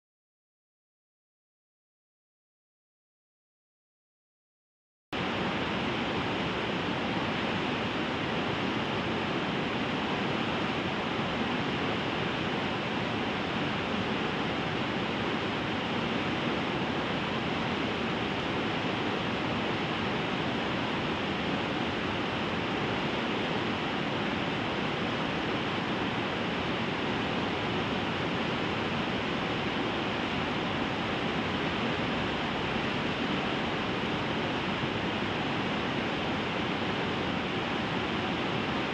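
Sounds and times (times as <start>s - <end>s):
white-water rapids rushing: 5.2s - 38.9s.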